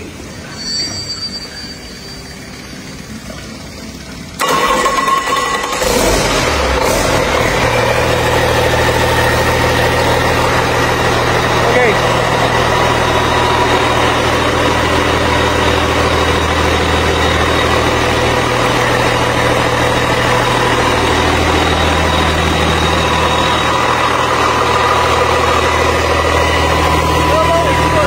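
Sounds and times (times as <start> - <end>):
thin steady whine: 0.0 - 4.4, 8.8 - 28.0
heavy engine idling: 1.8 - 28.0.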